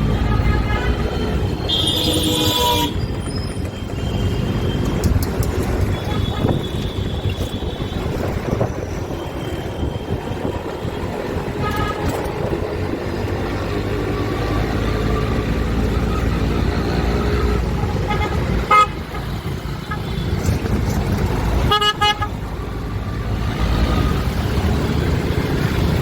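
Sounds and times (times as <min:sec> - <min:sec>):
vehicle engines rumbling: 0:00.0 - 0:26.0.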